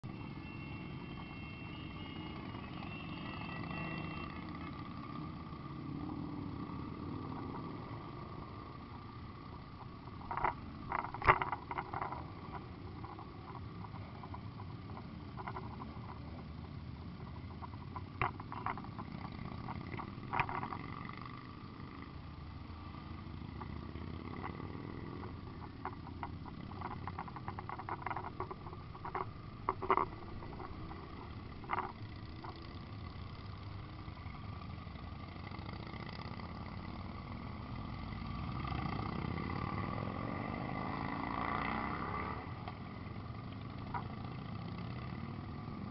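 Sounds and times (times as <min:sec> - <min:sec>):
motorcycle engines running: 0:00.0 - 0:45.9.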